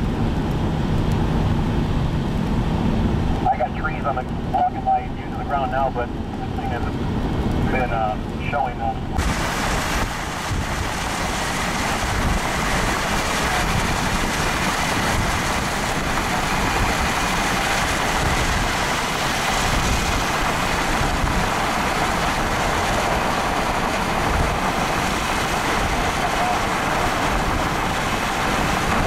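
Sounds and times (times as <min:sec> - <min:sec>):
car road and wind noise: 0:00.0 - 0:29.0.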